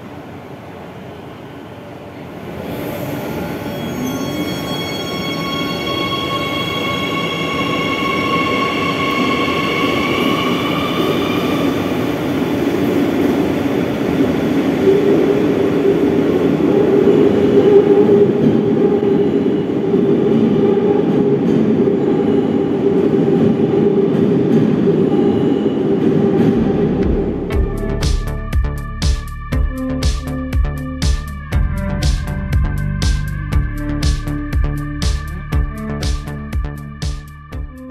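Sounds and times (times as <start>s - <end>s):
train rumble with low hum: 0.0s - 37.9s.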